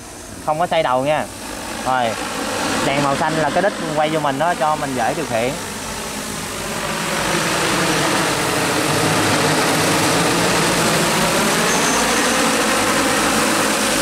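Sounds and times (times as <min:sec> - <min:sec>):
drone rotors humming: 0:00.0 - 0:14.0.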